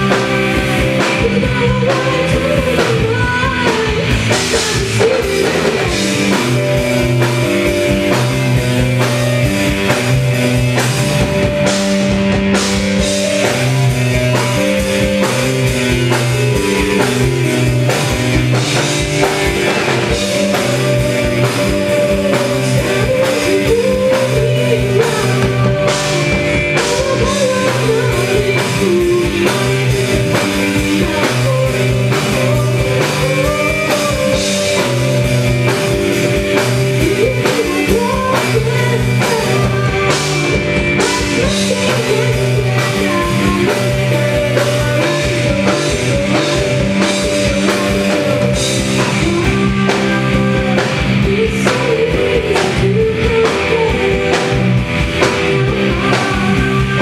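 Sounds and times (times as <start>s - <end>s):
bass guitar: 0.0s - 57.0s
drum kit beat: 0.0s - 57.0s
keyboard: 0.0s - 57.0s
person singing: 0.0s - 57.0s.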